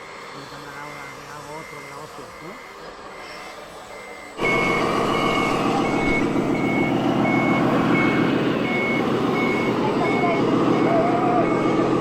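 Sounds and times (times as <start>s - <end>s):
engine running noise: 0.0s - 12.0s
reversing beeper: 0.0s - 12.0s.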